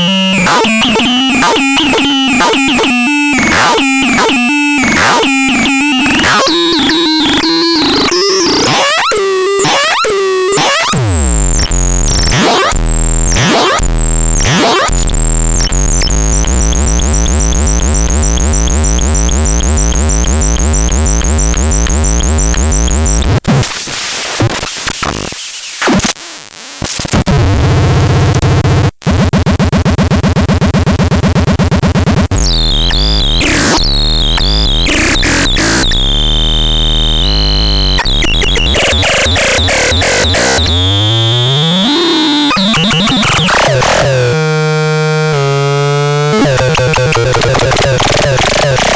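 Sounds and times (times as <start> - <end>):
buzzy synthesizer tones: 0.0 - 23.4, 27.3 - 48.9.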